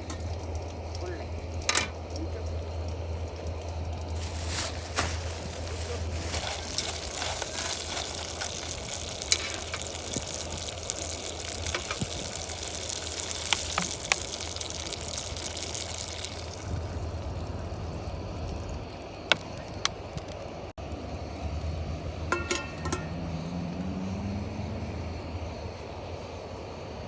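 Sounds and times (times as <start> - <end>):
liquid bubbling and hissing in pan: 0.0 - 27.0.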